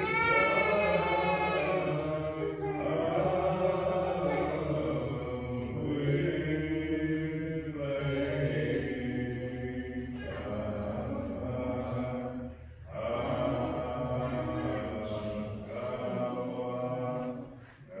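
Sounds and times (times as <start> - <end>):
slow hymn: 0.0 - 18.0.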